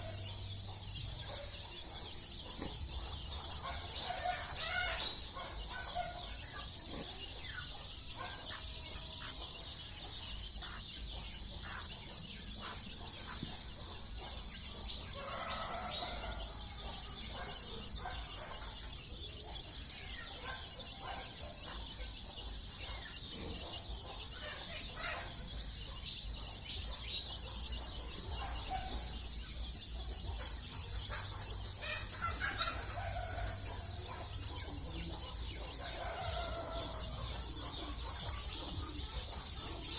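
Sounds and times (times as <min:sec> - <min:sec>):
chickens clucking: 0:00.0 - 0:39.9
crickets shrilling: 0:00.0 - 0:39.9.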